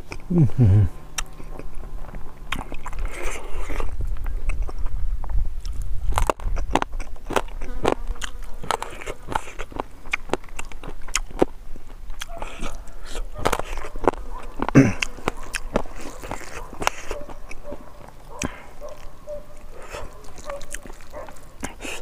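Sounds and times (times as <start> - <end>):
chewing and lip-smacking: 0.0 - 0.3, 0.9 - 22.0.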